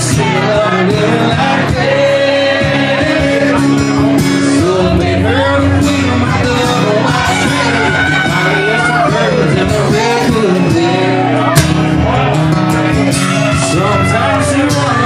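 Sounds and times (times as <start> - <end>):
man singing: 0.0 - 15.0
strummed acoustic guitars: 0.0 - 15.0.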